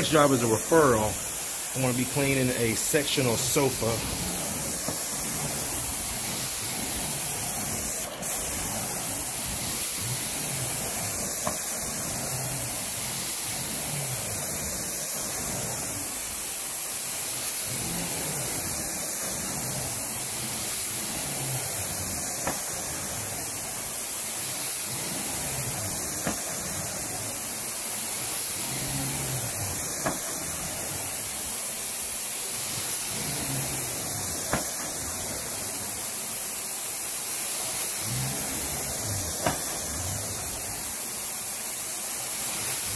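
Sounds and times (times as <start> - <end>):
carpet extraction wand suction: 0.0 - 42.9.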